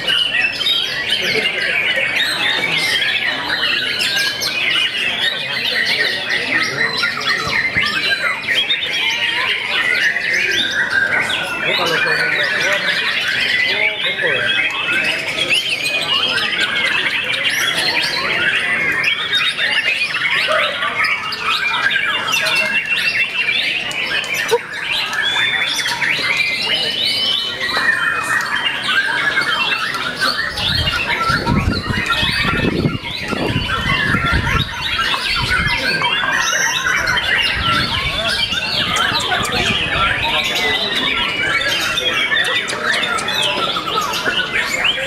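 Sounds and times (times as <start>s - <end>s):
many birds singing: 0.0s - 45.0s.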